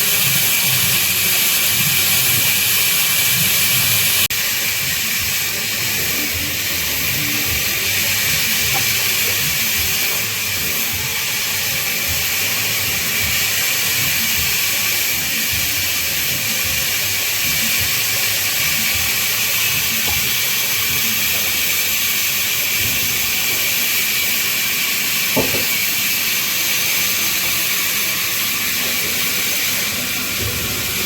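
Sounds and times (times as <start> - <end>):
band saw hissing: 0.0 - 31.0.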